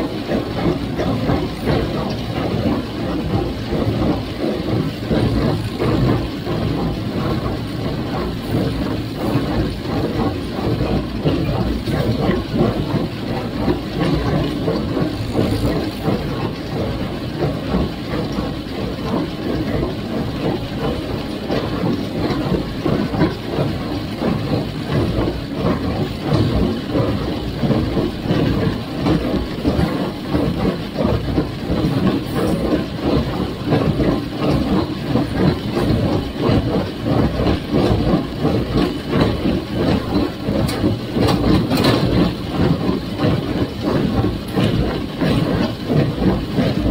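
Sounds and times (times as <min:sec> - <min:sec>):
baler mechanical clatter: 0:00.0 - 0:46.9
tractor engine running: 0:00.0 - 0:46.9.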